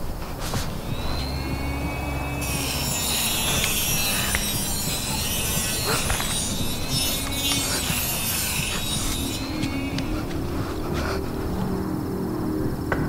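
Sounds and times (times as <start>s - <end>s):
high hiss: 0.0s - 13.0s
low rumbling drone: 0.0s - 13.0s.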